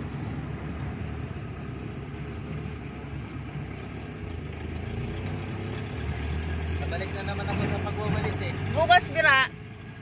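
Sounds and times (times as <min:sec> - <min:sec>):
road noise inside cab: 0:00.0 - 0:10.0
vehicle engine hum: 0:00.0 - 0:10.0.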